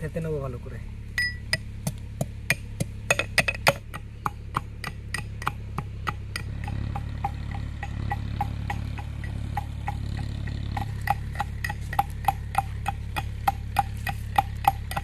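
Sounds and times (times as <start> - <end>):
metal mortar and pestle pounding: 1.2 - 15.0.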